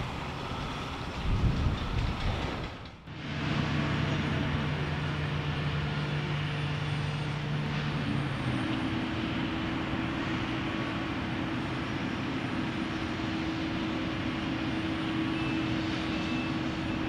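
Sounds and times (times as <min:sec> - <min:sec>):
machinery hum: 0:00.0 - 0:17.0
outdoor noise: 0:00.0 - 0:17.0.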